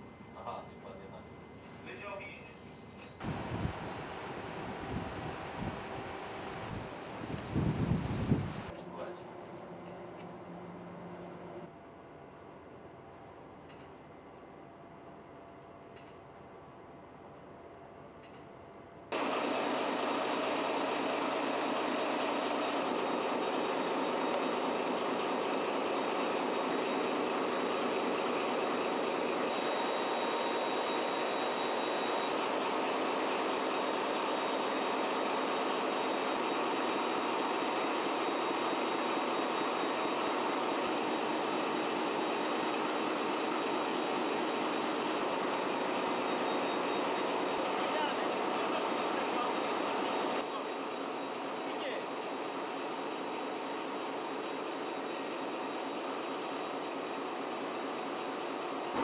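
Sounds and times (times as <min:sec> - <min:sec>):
faint high whine: 0:00.0 - 0:59.0
ship engine room machinery roar: 0:03.0 - 0:11.7, 0:19.1 - 0:59.0.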